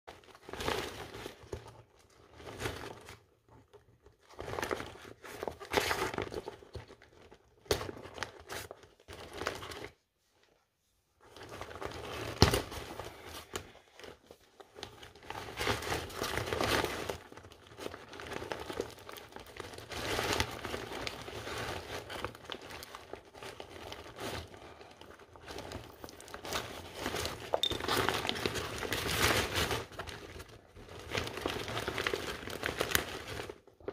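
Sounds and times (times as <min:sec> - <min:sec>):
fabric crinkling and rustling: 0:00.1 - 0:33.9.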